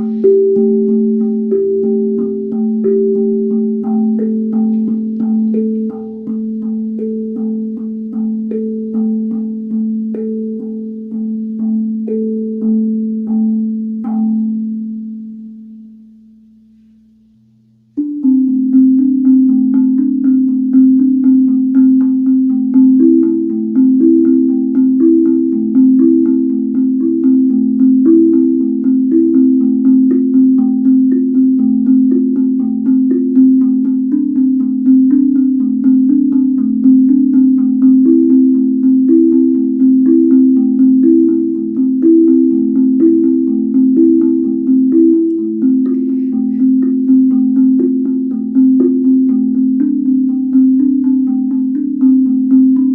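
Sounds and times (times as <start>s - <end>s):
steel tongue drum ringing notes: 0.0s - 52.9s.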